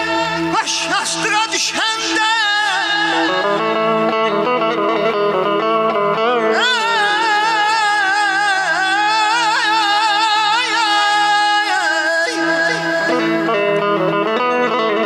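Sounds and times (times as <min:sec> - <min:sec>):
instrumental accompaniment: 0:00.0 - 0:15.0
man singing with rapid trills: 0:00.0 - 0:15.0.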